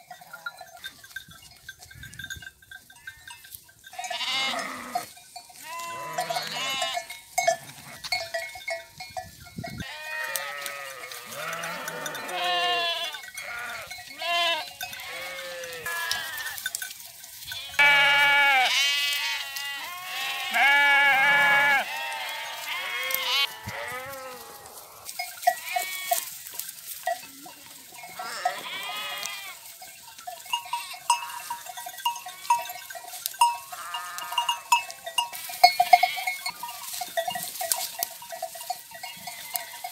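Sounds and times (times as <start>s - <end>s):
sheep bells clanking: 0.0s - 39.9s
sheep and lambs bleating: 2.0s - 8.4s, 9.7s - 16.8s, 17.4s - 29.8s, 30.4s - 39.9s.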